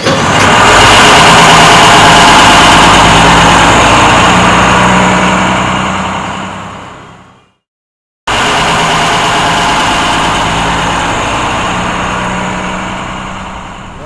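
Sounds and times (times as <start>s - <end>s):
vehicle engine running loudly: 0.0s - 7.6s, 8.3s - 14.0s.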